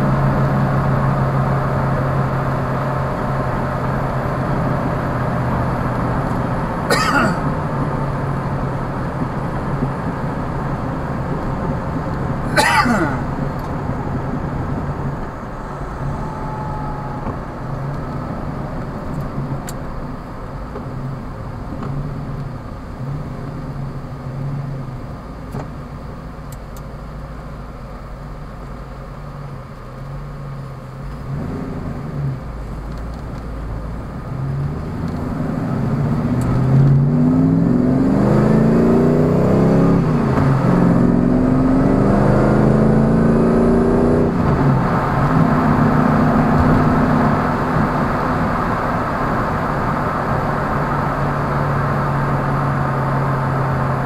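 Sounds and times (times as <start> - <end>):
car engine revving: 0.0 - 25.7, 31.0 - 54.0.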